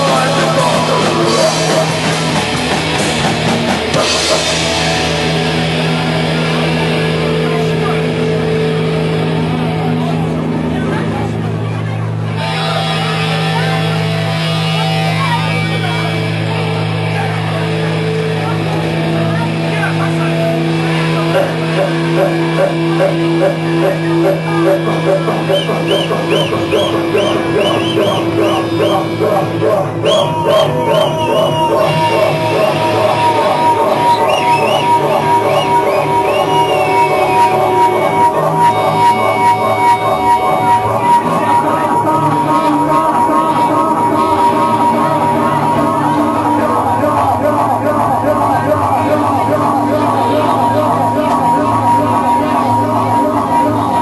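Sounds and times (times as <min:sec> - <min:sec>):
droning amplified note: 0:00.0 - 0:54.0
punk band playing: 0:00.0 - 0:54.0.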